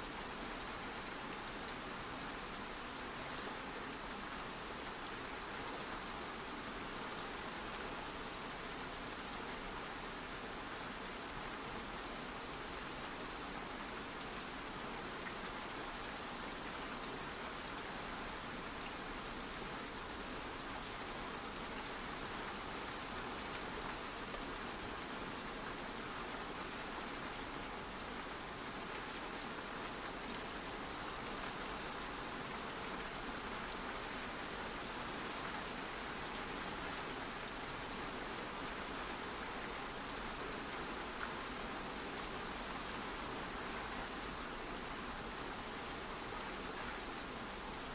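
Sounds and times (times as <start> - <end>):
steady rain hiss: 0.0 - 47.9.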